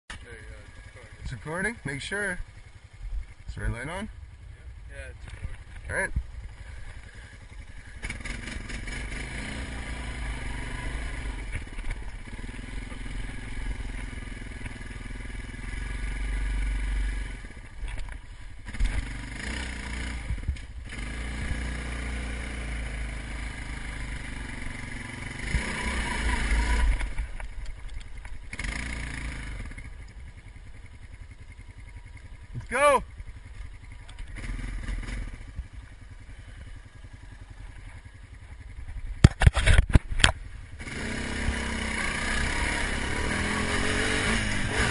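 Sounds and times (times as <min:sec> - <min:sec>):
atv engine revving: 0:00.1 - 0:44.9.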